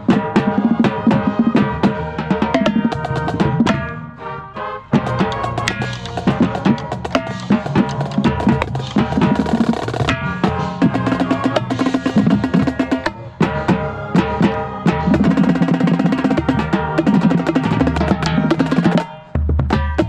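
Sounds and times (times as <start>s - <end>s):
marching tenor drums: 0.0s - 20.0s
pitched music: 0.0s - 20.0s.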